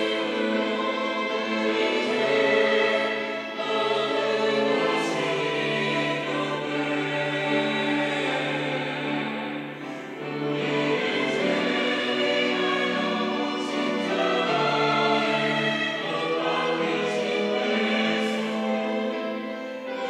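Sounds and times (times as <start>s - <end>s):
mixed choir singing a hymn: 0.0s - 20.0s.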